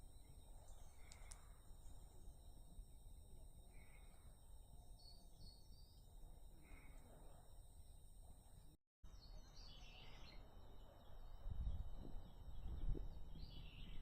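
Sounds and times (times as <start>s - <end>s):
birds chirping: 0.0s - 7.9s, 9.0s - 14.0s.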